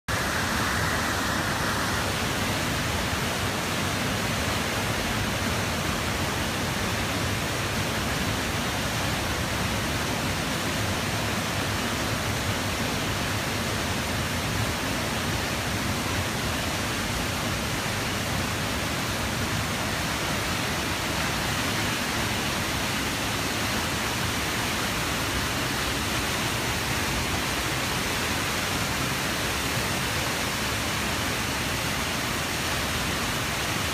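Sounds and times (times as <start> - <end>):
creek water rushing: 0.1 - 33.9.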